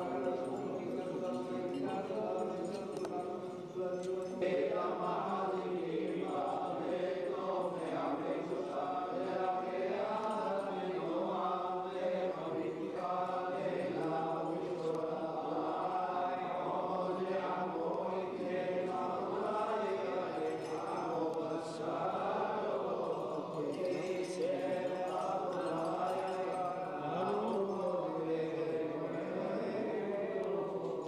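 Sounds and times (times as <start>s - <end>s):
congregation chanting: 0.0s - 31.0s.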